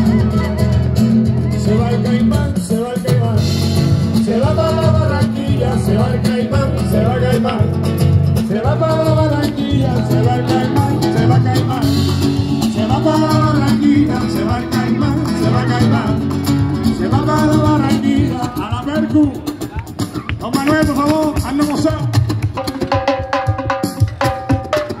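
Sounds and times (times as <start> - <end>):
steady bass: 0.0 - 22.3
strummed acoustic guitar: 0.0 - 22.8.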